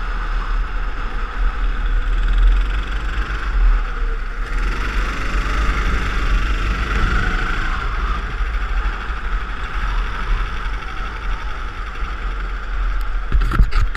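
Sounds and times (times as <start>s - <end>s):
go-kart engine running: 0.0s - 13.9s
wind rumble on microphone: 0.0s - 13.9s.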